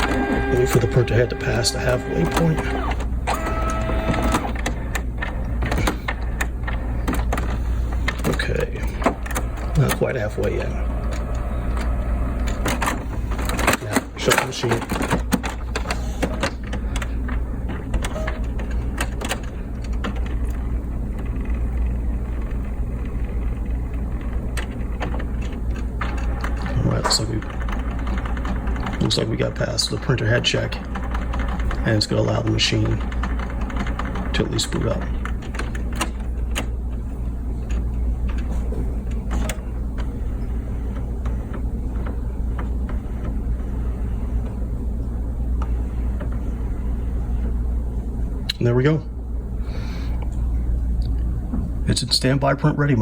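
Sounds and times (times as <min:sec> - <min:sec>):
printer carriage clicks and clacks: 0:00.0 - 0:47.6
printer motor hum: 0:00.0 - 0:53.0.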